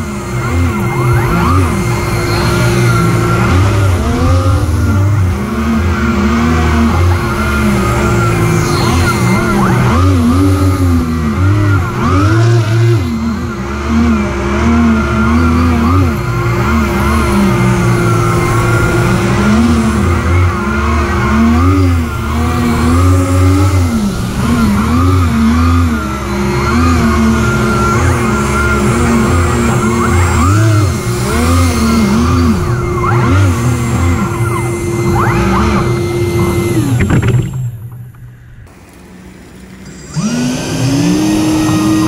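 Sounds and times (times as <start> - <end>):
lift fan humming: 0.0 - 42.0
propellers whirring: 0.0 - 42.0.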